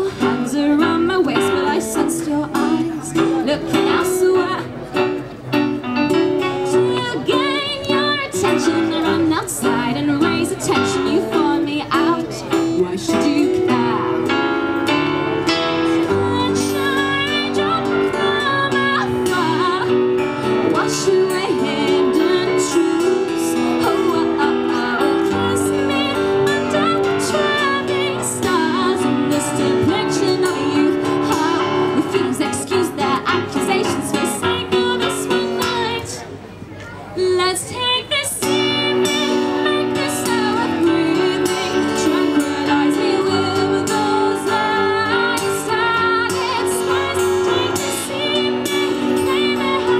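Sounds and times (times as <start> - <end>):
woman singing: 0.0 - 5.2, 6.0 - 36.2, 37.2 - 49.9
strummed acoustic guitar: 0.0 - 36.2, 38.4 - 49.9.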